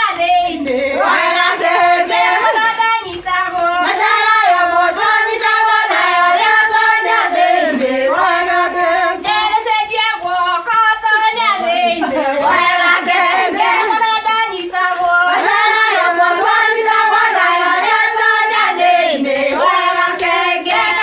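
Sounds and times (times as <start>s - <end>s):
high voice singing: 0.0s - 6.3s, 10.2s - 21.0s.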